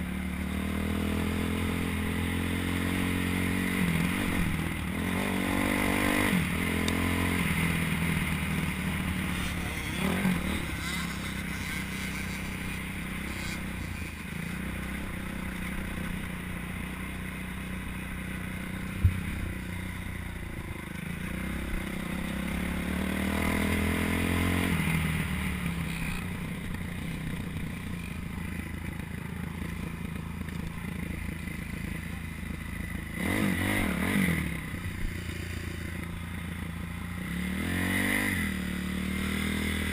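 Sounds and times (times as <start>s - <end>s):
dirt bike engine revving: 0.0s - 19.8s, 21.0s - 29.0s, 32.7s - 39.9s.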